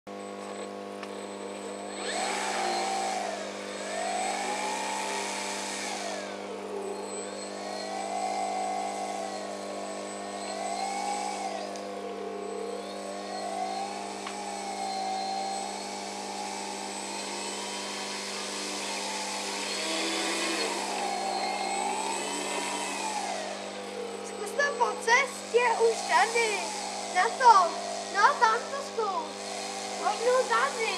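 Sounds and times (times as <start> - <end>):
model plane electric motor whine: 0.1 - 30.9.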